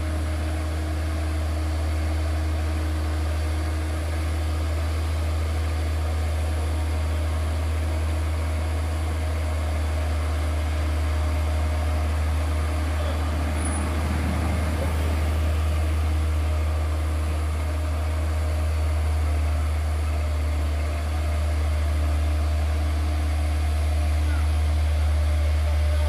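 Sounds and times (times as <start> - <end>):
truck diesel engine drone: 0.0 - 26.0.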